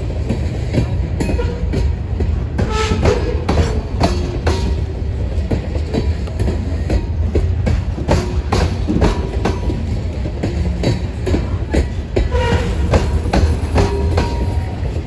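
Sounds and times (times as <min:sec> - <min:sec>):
train rumble: 0:00.0 - 0:15.0
train wheels clacking on rail joints: 0:00.0 - 0:15.0.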